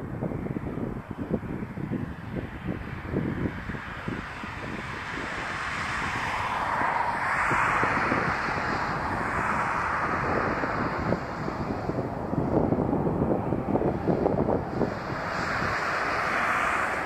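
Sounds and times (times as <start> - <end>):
distant jet engine whine: 0.0 - 17.0
wind buffeting microphone: 0.0 - 17.0.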